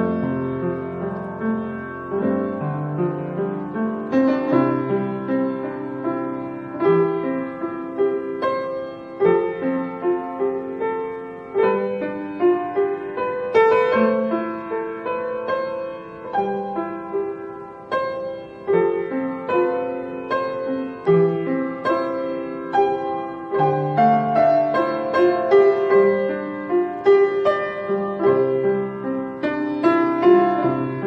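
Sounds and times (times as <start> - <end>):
solo piano piece: 0.0 - 31.0.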